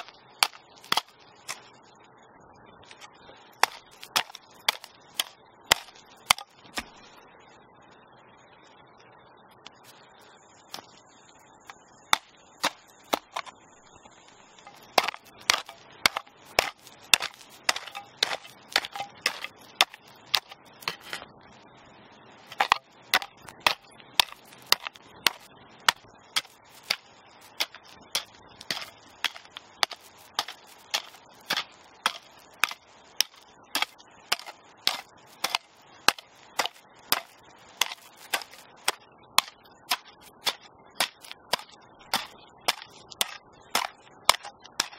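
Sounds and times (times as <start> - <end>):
hoe chopping stony soil: 0.0 - 1.7, 2.9 - 7.0, 10.7 - 10.9, 11.6 - 13.6, 14.5 - 21.3, 22.5 - 44.9.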